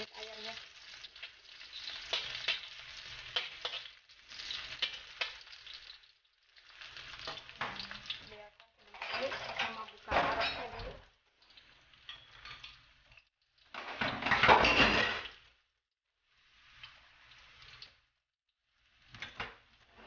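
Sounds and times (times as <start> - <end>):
ginger sizzling in oil: 0.0 - 20.0.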